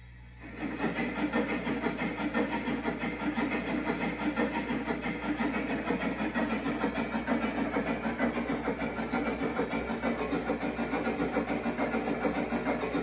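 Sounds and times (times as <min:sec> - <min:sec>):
model steam locomotive chuffing: 0:00.4 - 0:13.0.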